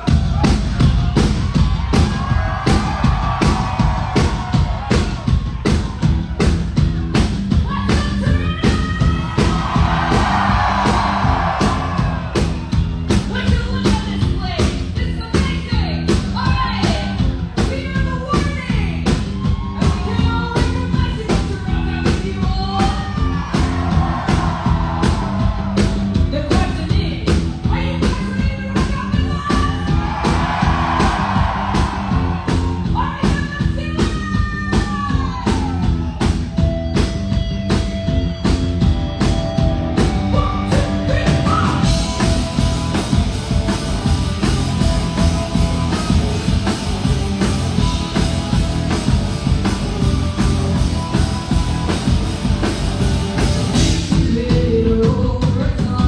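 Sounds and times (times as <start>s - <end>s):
drum beat: 0.0s - 54.9s
guitars: 0.0s - 56.0s.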